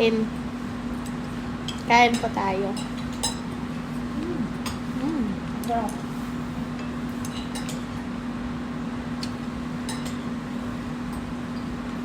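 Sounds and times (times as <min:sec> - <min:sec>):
steady low hum: 0:00.0 - 0:12.0
restaurant background noise: 0:00.9 - 0:11.8.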